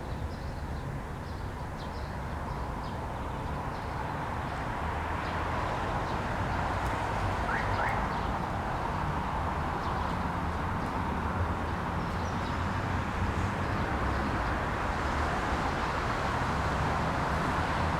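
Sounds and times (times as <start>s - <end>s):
distant city traffic rumble: 0.0s - 17.9s.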